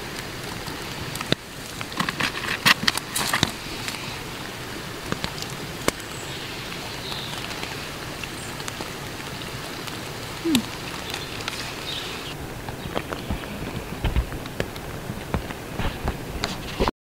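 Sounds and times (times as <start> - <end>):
rain on tent fabric: 0.0 - 16.9.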